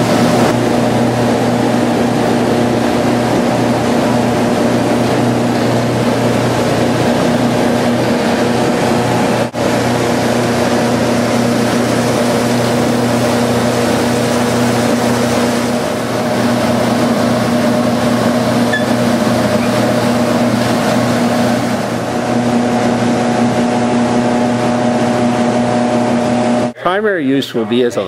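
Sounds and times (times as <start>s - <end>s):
machinery droning: 0.0s - 26.8s.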